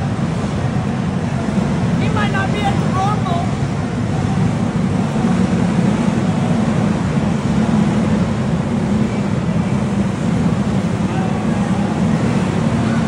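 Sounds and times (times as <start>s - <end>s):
go-kart engines rumbling: 0.0s - 13.0s.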